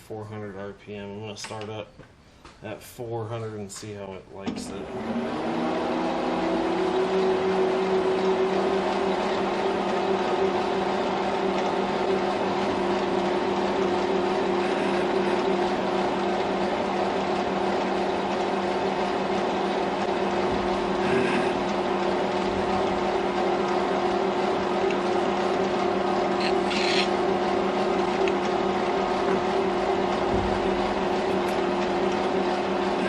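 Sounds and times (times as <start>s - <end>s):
metal lathe running: 4.5s - 33.0s.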